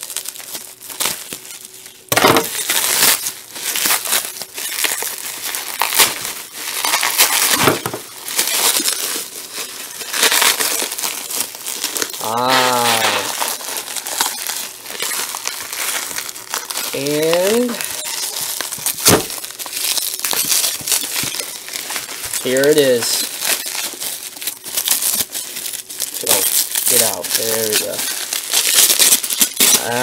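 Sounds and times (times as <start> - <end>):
bubble wrap crinkling: 0.0 - 30.0.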